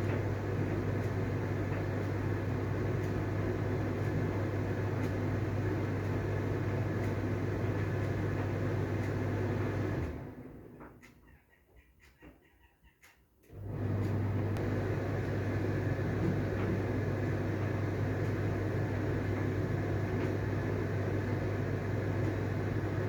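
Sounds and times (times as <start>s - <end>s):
machine hum with hiss: 0.0s - 10.5s, 13.5s - 23.0s.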